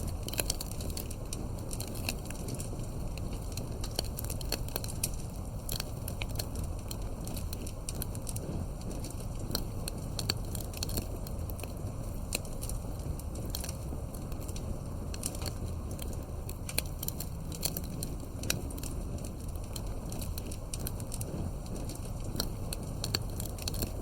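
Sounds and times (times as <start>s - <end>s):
low continuous rumble: 0.0s - 24.0s
wood fire crackling and popping: 0.0s - 24.0s.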